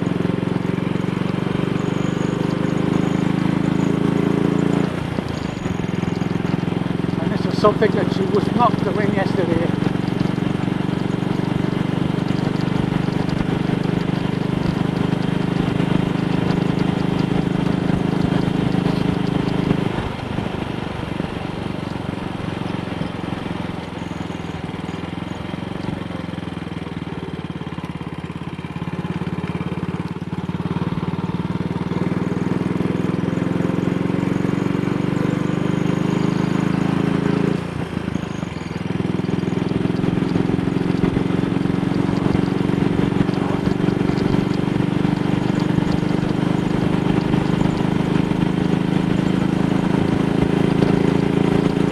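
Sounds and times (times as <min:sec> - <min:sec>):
motorcycle engine running: 0:00.0 - 0:51.9
wind and road noise: 0:00.0 - 0:51.9.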